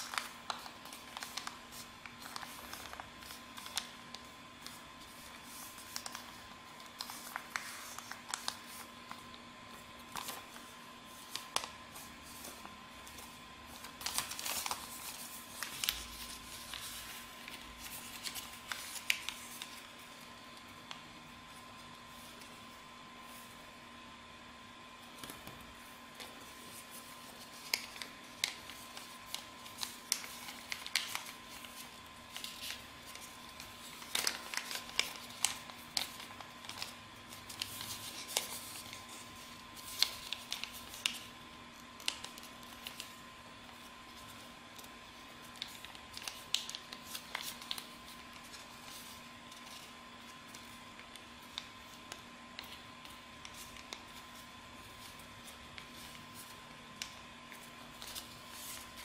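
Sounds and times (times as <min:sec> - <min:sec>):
paper crinkling and crackling: 0:00.0 - 0:23.7, 0:25.1 - 0:59.0.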